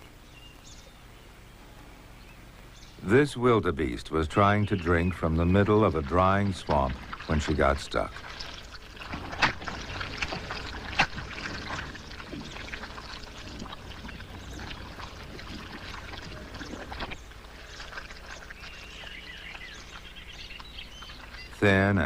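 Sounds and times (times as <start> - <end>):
mud and water sloshing: 3.8 - 22.0.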